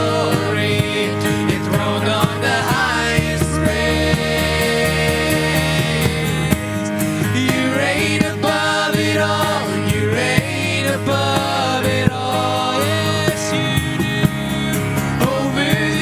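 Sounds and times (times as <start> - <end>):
bending melody line: 0.0 - 16.0
steady drum beat: 0.0 - 16.0
worship band playing: 0.0 - 16.0.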